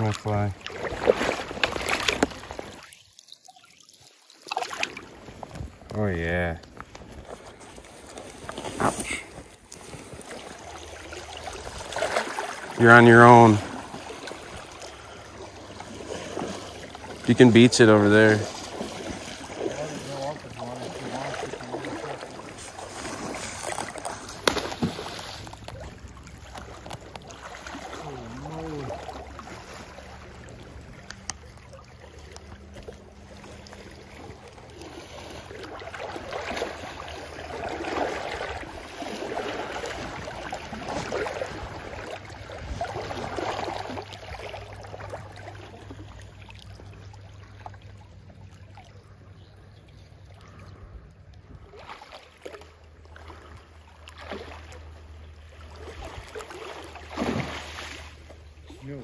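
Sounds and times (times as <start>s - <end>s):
fish splashing in water: 0.0s - 5.9s, 6.7s - 12.8s, 13.6s - 49.3s, 51.6s - 58.6s.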